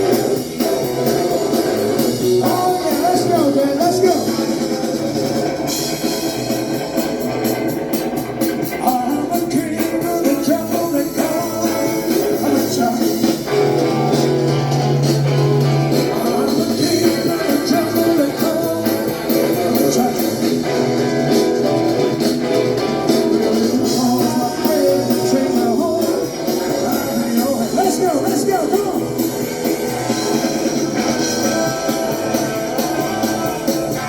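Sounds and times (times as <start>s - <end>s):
person singing: 0.0s - 5.6s, 8.7s - 22.2s, 23.3s - 34.0s
lead guitar: 0.0s - 34.0s
rock band playing: 0.0s - 34.0s.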